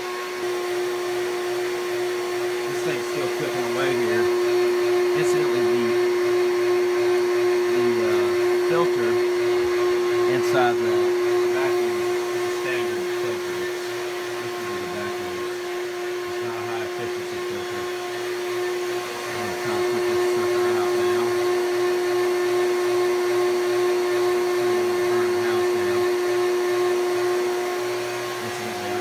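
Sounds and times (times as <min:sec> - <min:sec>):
vacuum motor humming: 0:00.0 - 0:29.0.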